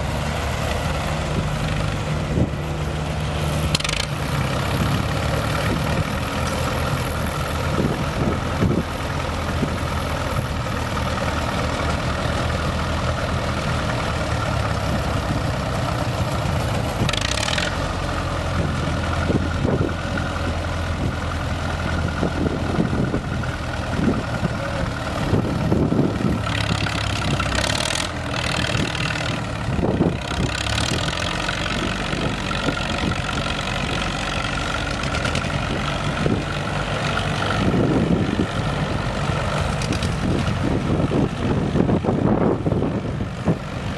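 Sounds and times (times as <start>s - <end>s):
other tractor engines: 0.0s - 43.9s
tractor diesel engine running: 0.0s - 43.9s.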